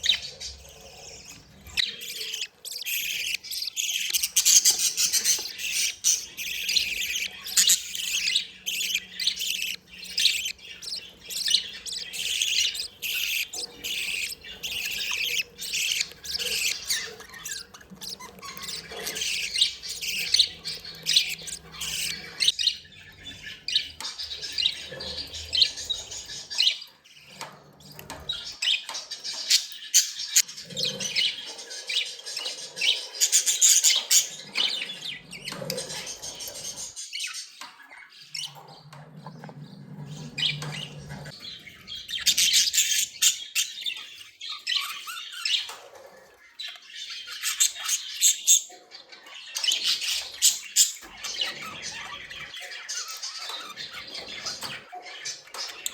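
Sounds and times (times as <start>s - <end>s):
budgerigars chirping: 0.0s - 55.9s.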